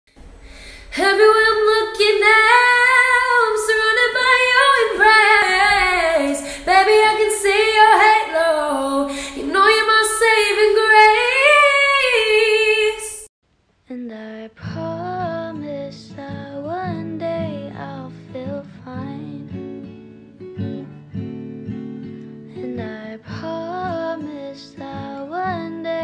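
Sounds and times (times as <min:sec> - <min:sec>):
woman singing unaccompanied: 0:00.8 - 0:13.3, 0:13.9 - 0:19.8, 0:22.5 - 0:26.0.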